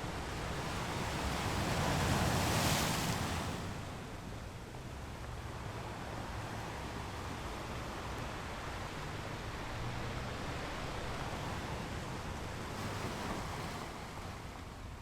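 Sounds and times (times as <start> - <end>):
ocean waves breaking on shore: 0.1 - 4.1, 5.9 - 14.9.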